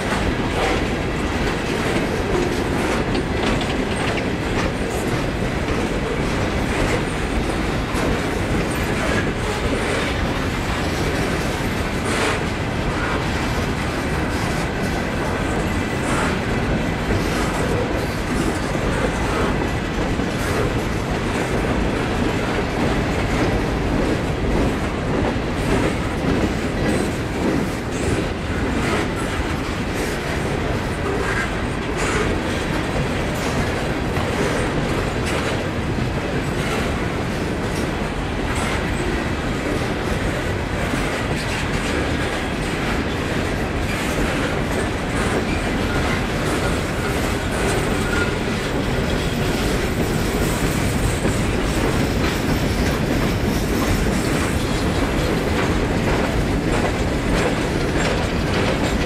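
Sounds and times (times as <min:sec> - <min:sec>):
clickety-clack of rail joints: 0:00.0 - 0:59.0
wheels rumbling on rail: 0:00.0 - 0:59.0.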